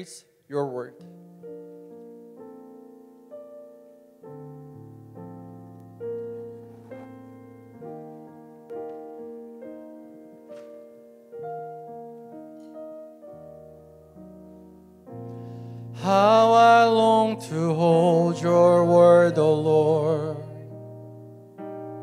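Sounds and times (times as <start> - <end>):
soft slow piano chords: 0.5 - 22.0.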